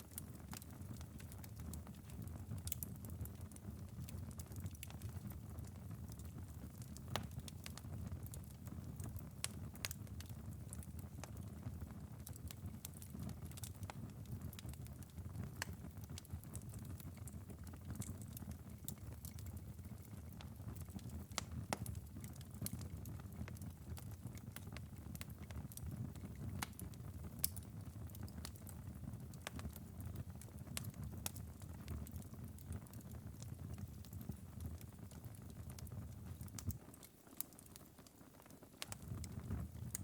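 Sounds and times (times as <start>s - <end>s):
fire low rumble: 0.0s - 36.8s, 38.8s - 40.0s
fire crackles and pops: 0.0s - 40.0s.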